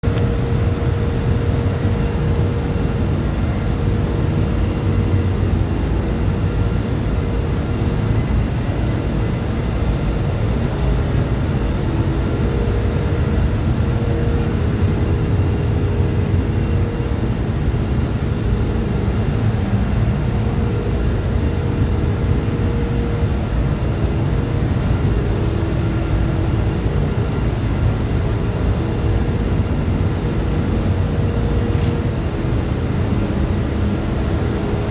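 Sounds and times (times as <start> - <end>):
faint machinery whines: 0.0 - 34.9
machinery low drone: 0.0 - 34.9.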